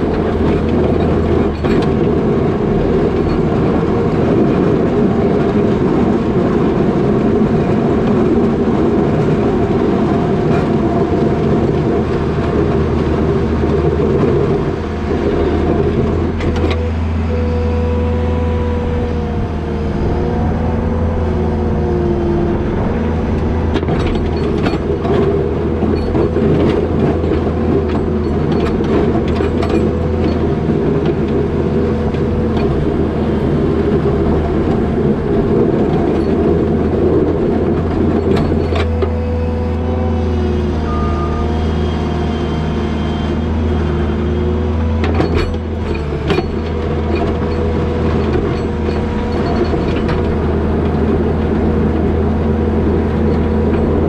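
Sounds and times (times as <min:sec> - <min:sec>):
diesel engine running under load: 0:00.0 - 0:54.0
hydraulic whine: 0:10.4 - 0:54.0.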